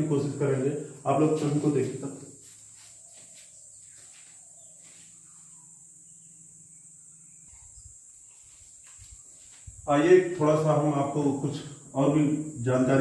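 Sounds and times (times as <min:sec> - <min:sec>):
high-pitched hiss: 0:00.0 - 0:13.0.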